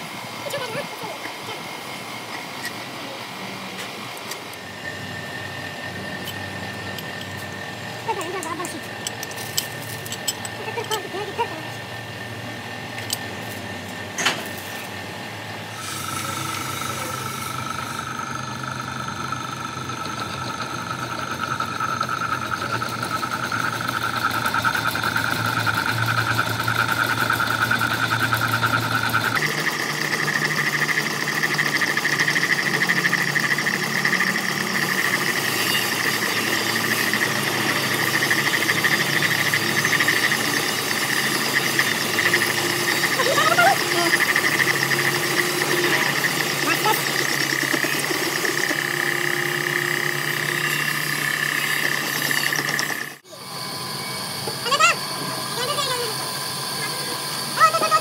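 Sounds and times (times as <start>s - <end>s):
high cutting whine: 0.0s - 58.0s
lathe machine hum: 0.0s - 58.0s.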